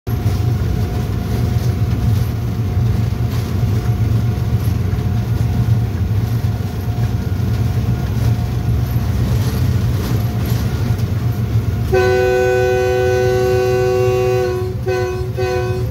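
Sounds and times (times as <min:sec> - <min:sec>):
locomotive engine drone: 0:00.1 - 0:15.9.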